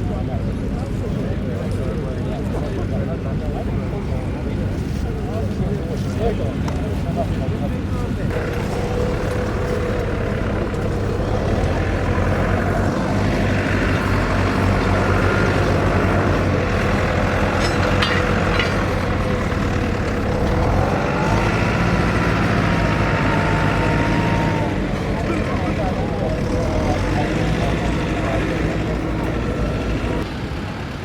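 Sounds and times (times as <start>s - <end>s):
engine humming with whine: 0.0s - 31.0s.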